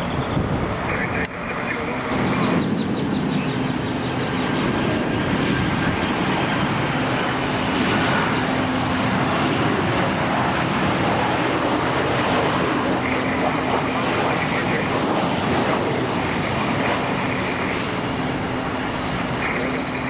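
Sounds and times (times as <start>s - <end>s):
airplane engines running: 0.0s - 20.0s.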